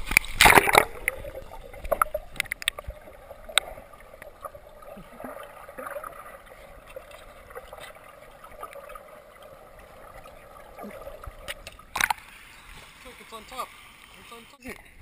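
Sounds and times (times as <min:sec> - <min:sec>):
sharp clicks underwater: 0:00.0 - 0:12.7
low watery gurgle: 0:00.0 - 0:15.0.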